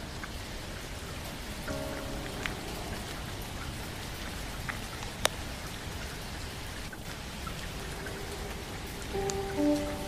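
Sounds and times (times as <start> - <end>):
faint dripping ticks: 0.0 - 10.0
steady rain: 0.0 - 10.0.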